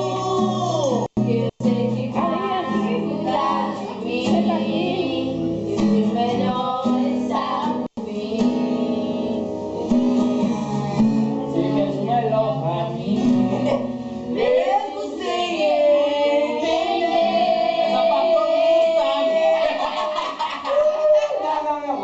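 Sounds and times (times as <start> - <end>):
guitar accompaniment: 0.0 - 22.0
person singing: 0.0 - 22.0.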